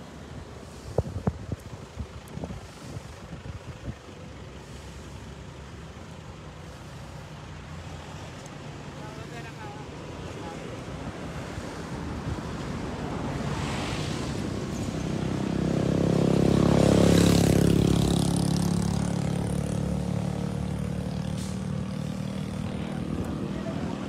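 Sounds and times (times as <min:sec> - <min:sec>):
vehicle passing: 0:04.3 - 0:24.0.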